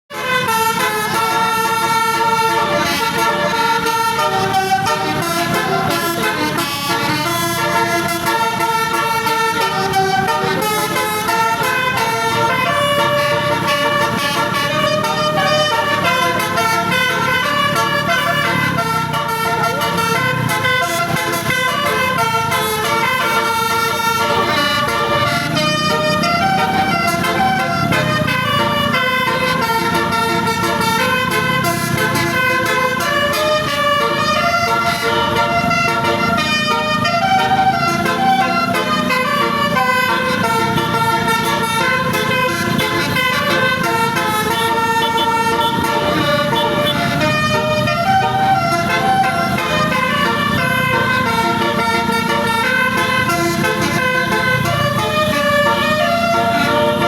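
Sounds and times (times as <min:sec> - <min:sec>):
musical air horns melody: 0:00.1 - 0:57.0.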